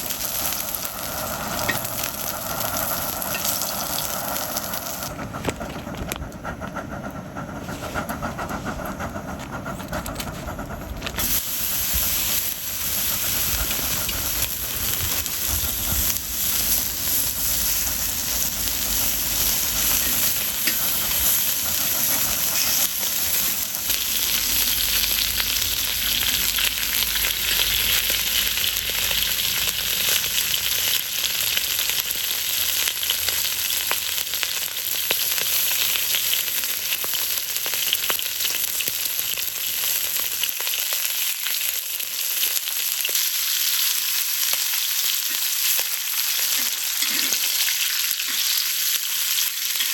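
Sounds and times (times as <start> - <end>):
food sizzling in pan: 0.0 - 5.1, 11.2 - 49.9.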